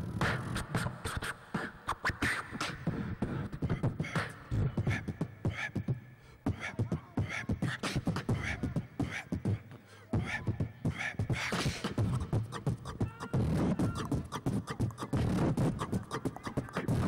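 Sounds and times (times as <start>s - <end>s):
beatboxing into a microphone: 0.0s - 17.0s.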